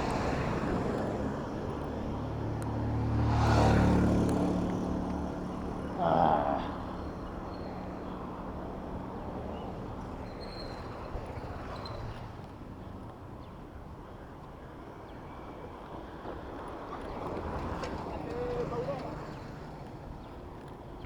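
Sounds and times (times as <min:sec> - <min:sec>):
traffic rumbling: 0:00.0 - 0:21.0.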